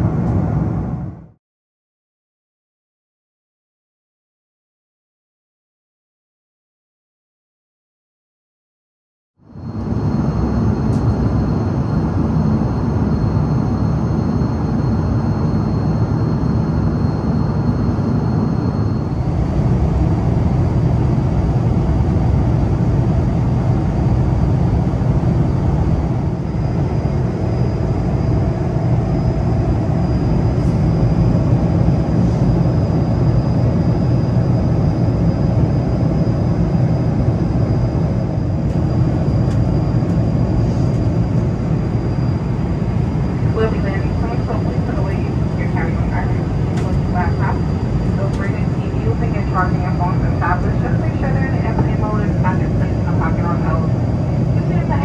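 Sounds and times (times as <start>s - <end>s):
jet engine cabin noise: 0.0s - 1.4s, 9.4s - 55.0s.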